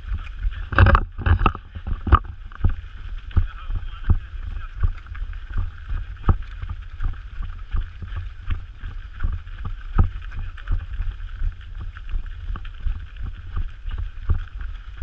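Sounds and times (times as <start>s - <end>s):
footsteps on dirt trail: 0.0s - 15.0s
wind rumble on microphone: 0.0s - 15.0s.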